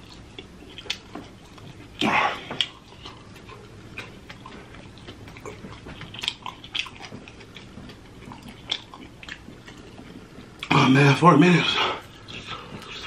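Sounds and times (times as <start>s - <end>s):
chewing and wet lip-smacking: 0.0s - 11.0s, 12.0s - 13.0s.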